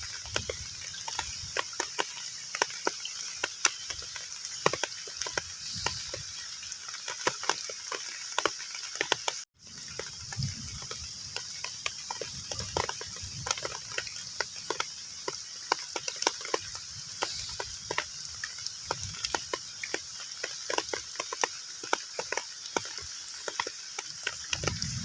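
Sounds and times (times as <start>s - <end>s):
heavy rain hissing on a pond: 0.0s - 25.0s
raindrops plinking on water: 0.0s - 25.0s.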